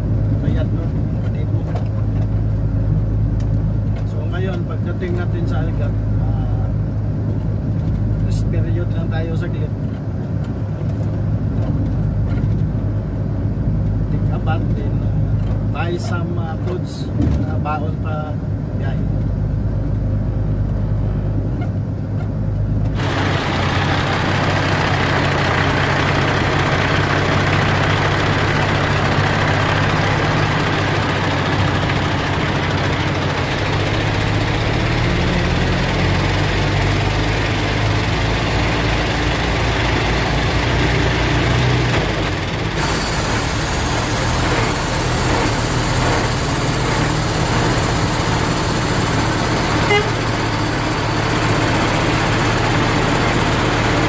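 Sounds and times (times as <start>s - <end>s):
diesel truck engine running: 0.0s - 54.0s
road noise: 0.0s - 54.0s.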